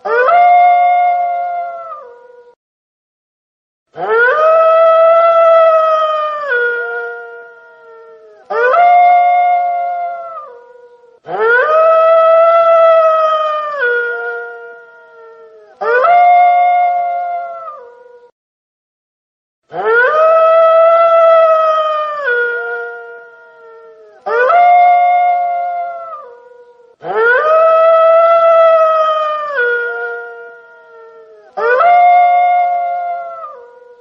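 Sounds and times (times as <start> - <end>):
wolf howling: 0.0 - 2.6, 4.0 - 18.3, 19.7 - 34.0.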